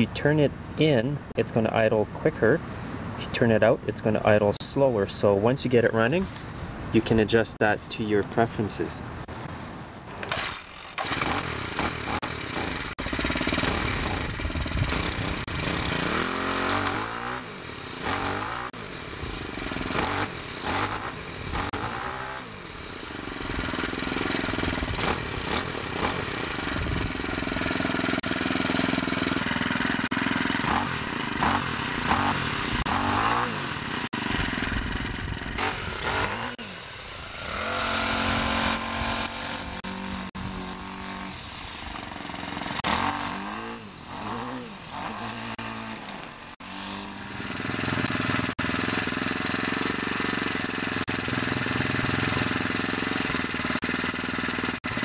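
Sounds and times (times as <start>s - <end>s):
string trimmer engine running: 10.1s - 55.0s.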